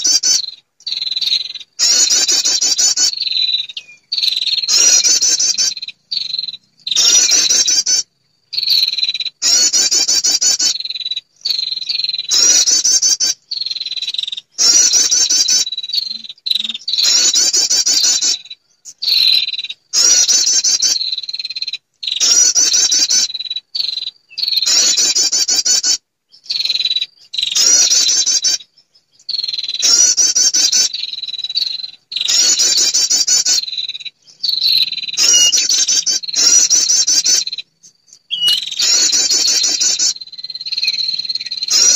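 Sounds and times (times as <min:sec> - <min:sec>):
bird chattering trill: 0:00.0 - 0:41.9.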